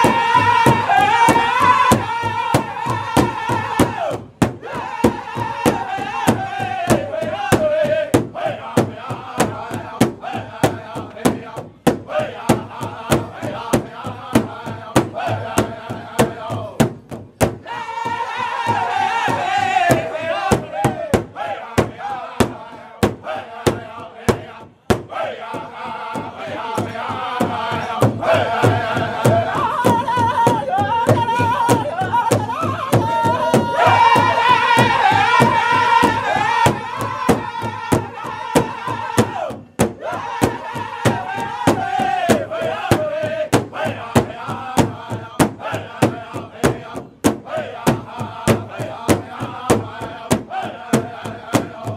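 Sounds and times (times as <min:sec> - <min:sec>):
large drum beating: 0:00.0 - 0:51.9
men singing in unison: 0:00.0 - 0:51.9.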